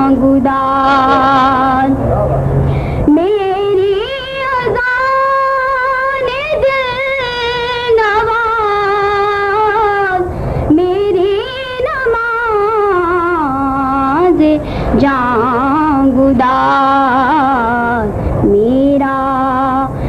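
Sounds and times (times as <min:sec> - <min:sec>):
girl singing unaccompanied: 0:00.0 - 0:01.9, 0:03.0 - 0:20.0.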